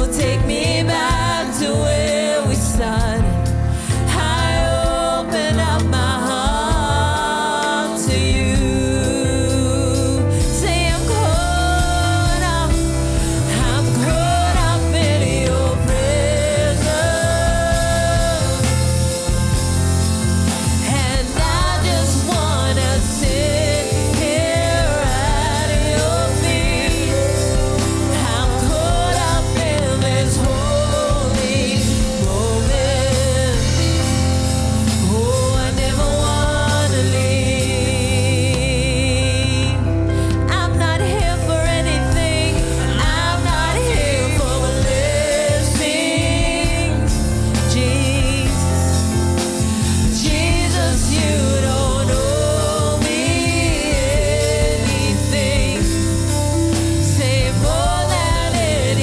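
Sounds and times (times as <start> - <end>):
held chords and bass: 0.0 - 59.0
person singing with vibrato: 0.0 - 59.0.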